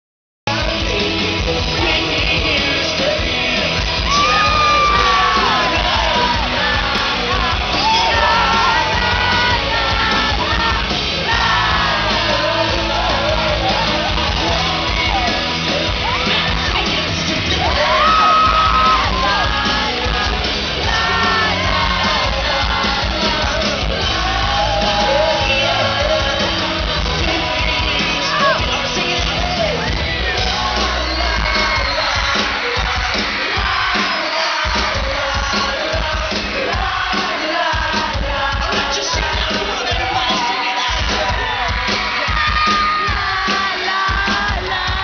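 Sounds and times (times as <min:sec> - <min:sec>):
audience yelling along: 0:00.5 - 0:45.0
live pop-rock band: 0:00.5 - 0:45.0.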